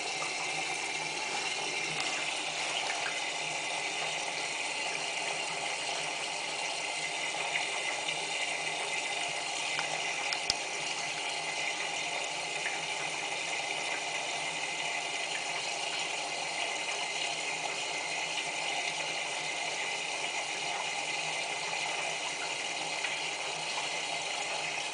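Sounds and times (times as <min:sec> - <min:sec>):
water rushing into washing machine: 0:00.0 - 0:24.9.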